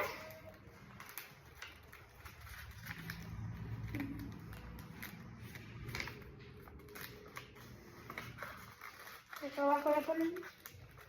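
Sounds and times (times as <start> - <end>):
paper and tape crinkling: 0.0 - 11.0.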